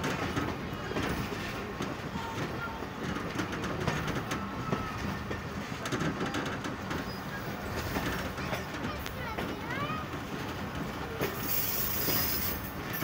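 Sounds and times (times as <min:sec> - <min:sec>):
rail clicks: 0:00.0 - 0:13.0
train wheels rumbling on track: 0:00.0 - 0:13.0.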